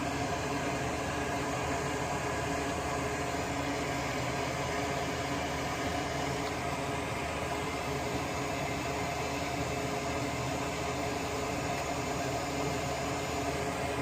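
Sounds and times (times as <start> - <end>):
fan motor whirring: 0.0 - 14.0.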